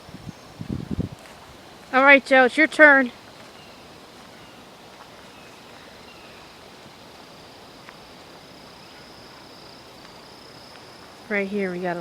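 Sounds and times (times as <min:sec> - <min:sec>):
insect buzzing: 0:00.0 - 0:12.0.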